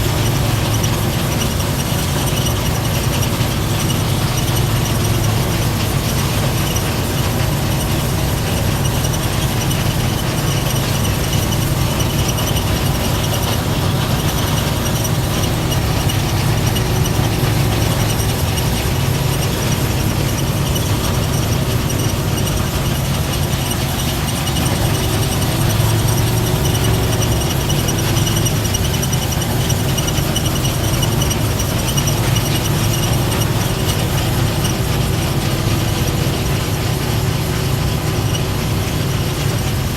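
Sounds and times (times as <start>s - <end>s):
low engine drone: 0.0s - 39.9s.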